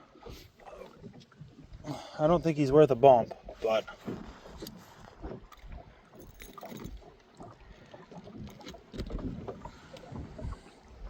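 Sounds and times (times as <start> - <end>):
knocks and clicks in a boat: 0.0 - 11.0.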